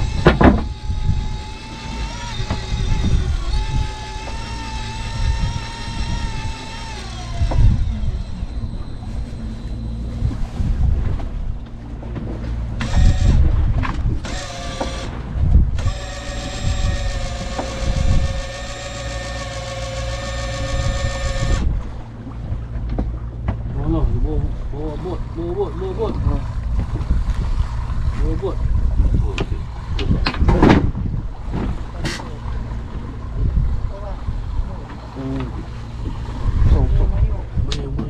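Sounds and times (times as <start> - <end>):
boat engine whine and rumble: 0.0 - 38.0.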